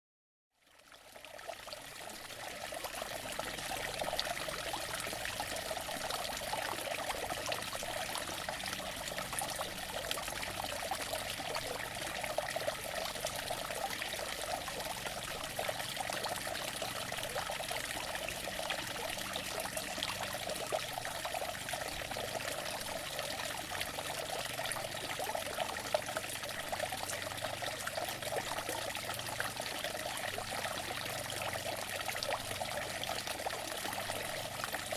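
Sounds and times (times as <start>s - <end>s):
water fountain splashing: 0.8s - 34.9s.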